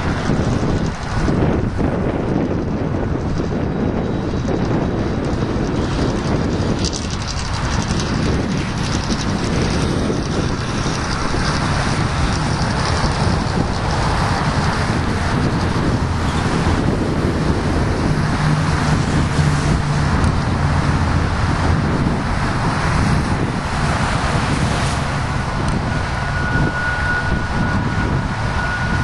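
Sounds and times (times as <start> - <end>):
highway traffic: 0.0 - 29.0
low engine drone: 0.0 - 29.0
vehicles passing close by: 0.0 - 29.0
wind noise on microphone: 0.0 - 29.0.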